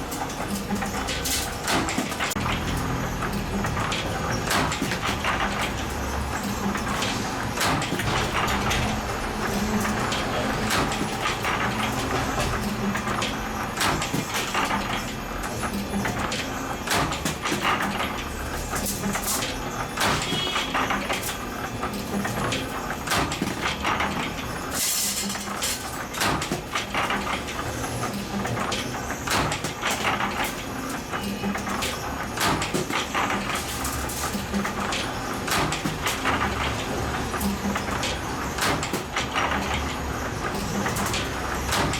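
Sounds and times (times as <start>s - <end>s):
machinery clattering metallic clicks: 0.0s - 41.9s.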